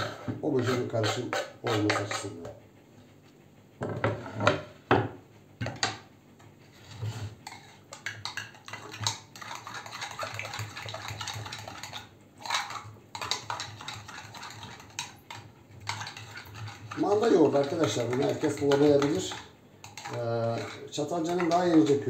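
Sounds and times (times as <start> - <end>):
spoon scraping ceramic bowl: 0.0 - 2.5, 6.7 - 22.0.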